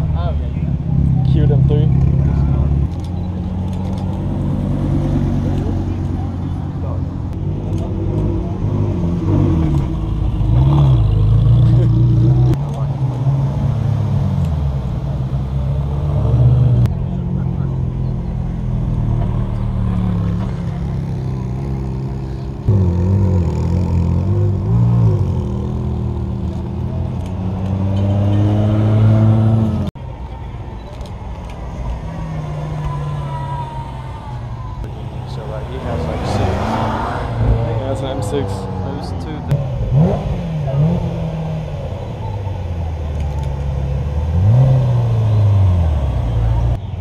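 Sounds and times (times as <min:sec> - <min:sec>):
car engine revving: 0:00.6 - 0:30.0, 0:34.8 - 0:46.9.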